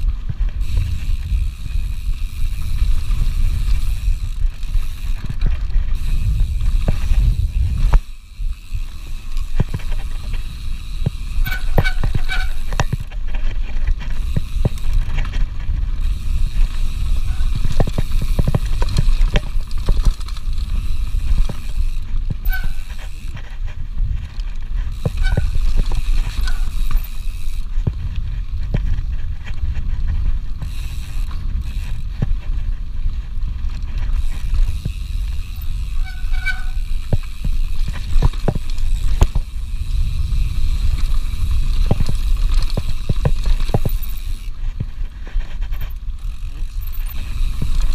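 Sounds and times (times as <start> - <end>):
bike knocking and rattling: 0.0 - 47.9
tyres rumbling on dirt: 0.0 - 47.9
wind on microphone: 0.0 - 47.9.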